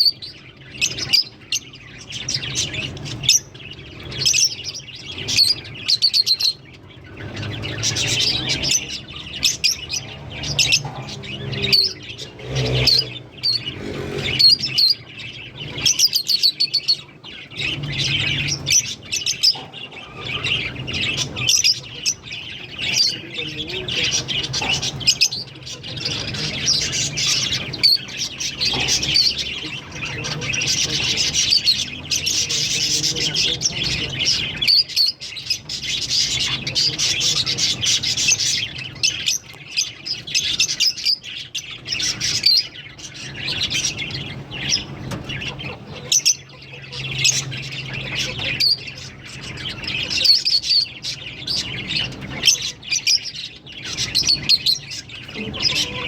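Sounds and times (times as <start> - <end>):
lovebirds chirping and squawking: 0.0 - 56.0.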